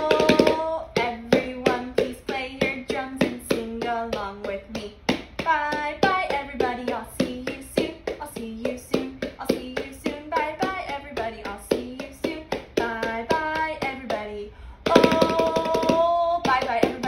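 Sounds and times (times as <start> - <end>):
small hand drum beating: 0.0 - 14.2, 14.9 - 17.0
woman singing a children's song: 0.0 - 17.0.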